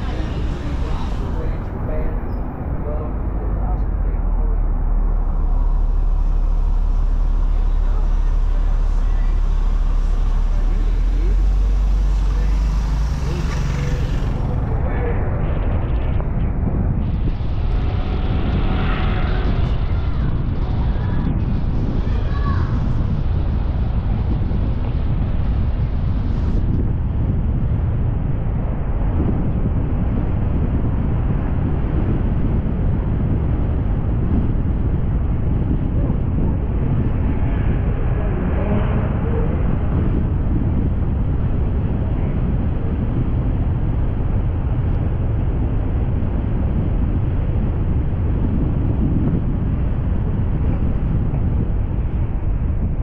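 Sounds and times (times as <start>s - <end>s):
low rumble: 0.0s - 53.0s
wind buffeting microphone: 0.0s - 53.0s.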